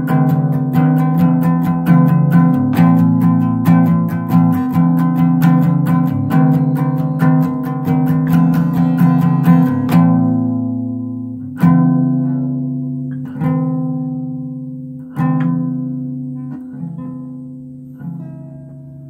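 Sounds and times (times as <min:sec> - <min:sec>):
guitar chords ringing: 0:00.0 - 0:19.0
guitar strums: 0:00.0 - 0:19.0.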